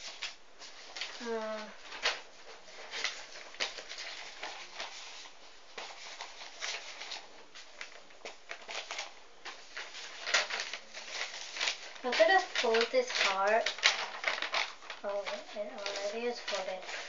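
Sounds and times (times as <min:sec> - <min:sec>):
paper rustling: 0:00.0 - 0:17.0.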